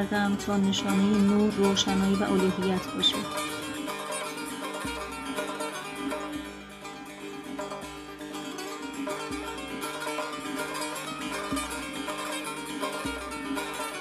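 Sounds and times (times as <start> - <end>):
plucked strings background music: 0.0 - 14.0.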